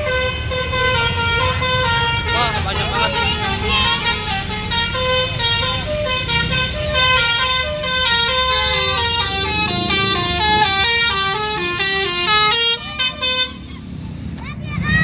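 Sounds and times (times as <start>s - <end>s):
musical air horn melody: 0.0s - 13.6s
bus and traffic rumble: 0.0s - 15.0s.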